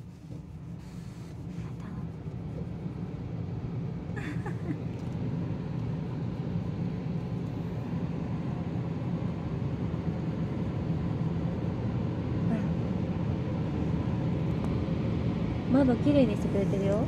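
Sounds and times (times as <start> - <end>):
car wash machine rumble: 0.0 - 17.0.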